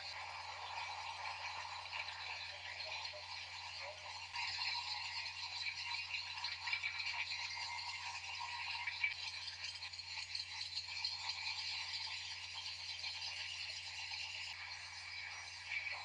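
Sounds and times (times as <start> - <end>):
valves rattling along feed track: 0.0 - 16.0.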